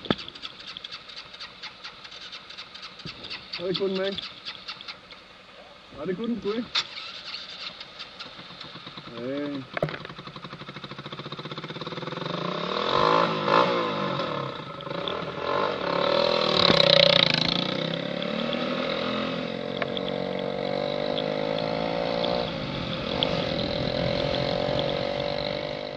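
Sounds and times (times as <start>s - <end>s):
motorcycle engine revving: 0.0s - 5.2s, 6.0s - 25.9s.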